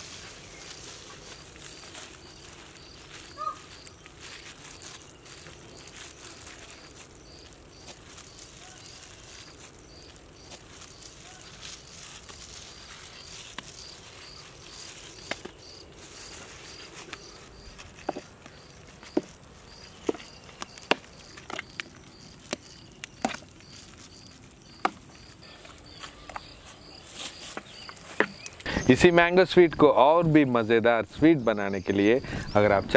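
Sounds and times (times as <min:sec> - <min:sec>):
cricket chirping: 0:00.0 - 0:32.9.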